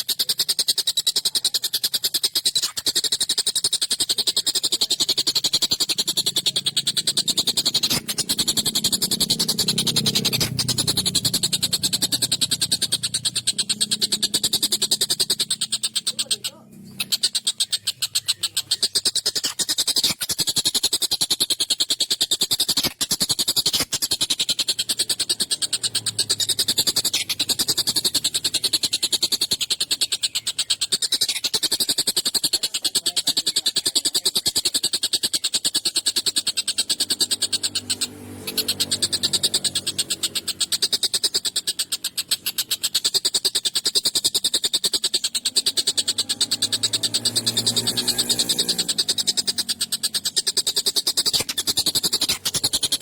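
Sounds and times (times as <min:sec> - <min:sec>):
bird chattering harsh notes: 0:00.0 - 0:53.0.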